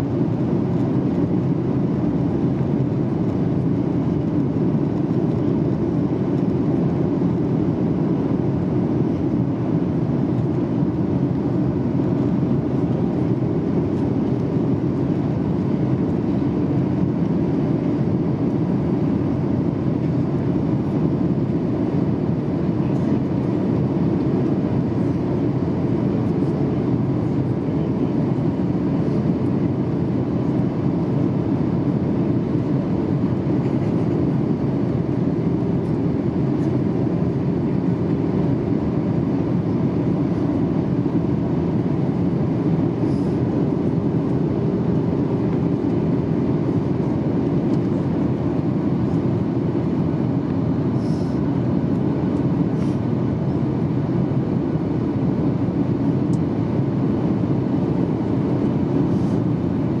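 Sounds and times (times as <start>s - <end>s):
airplane cabin engine rush: 0.0s - 60.0s.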